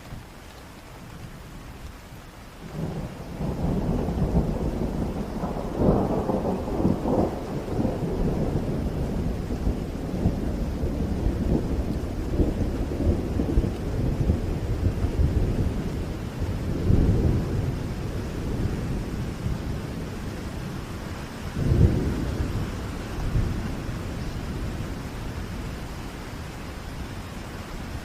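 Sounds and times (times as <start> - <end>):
heavy rain: 0.0 - 28.0
thunder rumbling: 2.6 - 28.0.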